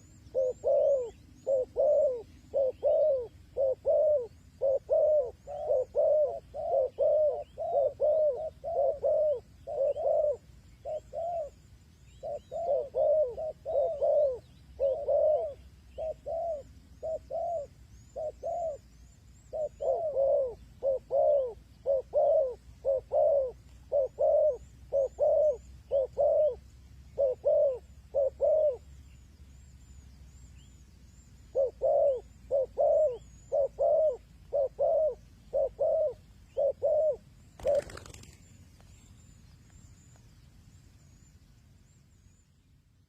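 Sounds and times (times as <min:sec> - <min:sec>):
dove cooing: 0:00.0 - 0:29.2, 0:31.1 - 0:38.4
small birds chirping: 0:00.0 - 0:43.0.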